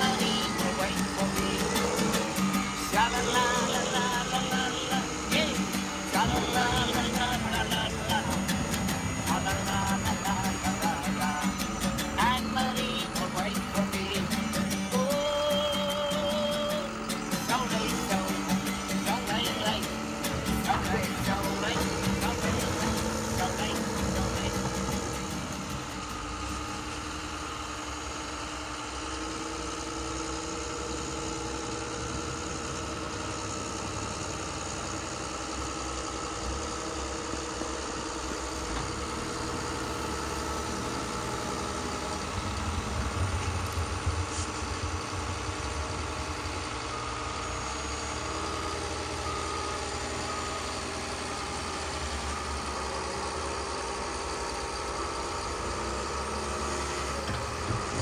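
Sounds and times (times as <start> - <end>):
model loader engine idling: 0.0 - 58.0.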